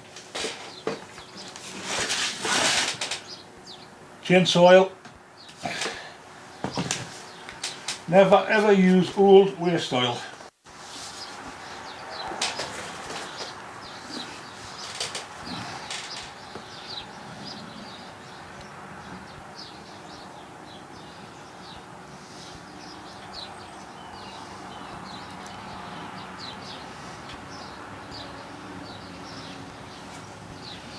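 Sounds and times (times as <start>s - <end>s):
small birds chirping: 0.3s - 2.4s, 3.1s - 10.3s, 11.1s - 30.9s.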